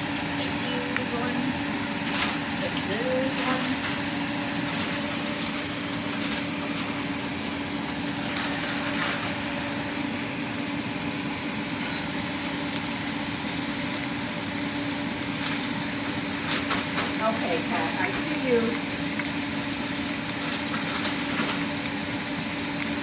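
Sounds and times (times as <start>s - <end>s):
fish sizzling in a pan: 0.0s - 23.0s
steady mechanical hum: 0.0s - 23.0s.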